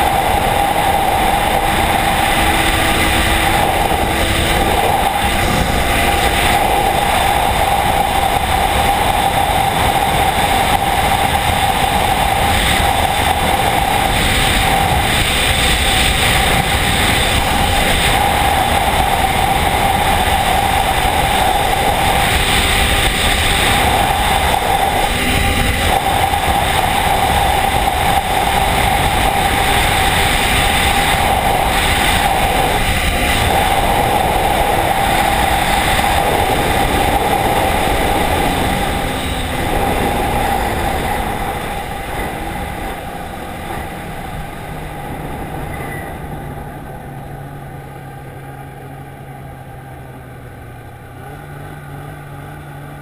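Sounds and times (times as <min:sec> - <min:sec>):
rushing wind: 0:00.0 - 0:53.0
snowmobile engine running: 0:00.0 - 0:53.0.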